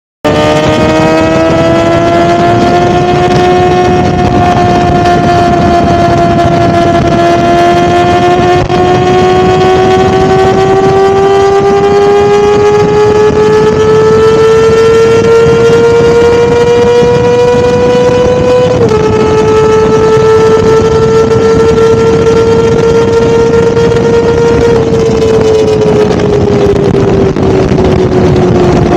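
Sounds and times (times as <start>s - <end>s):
motorcycle engine revving high: 0.2s - 28.9s.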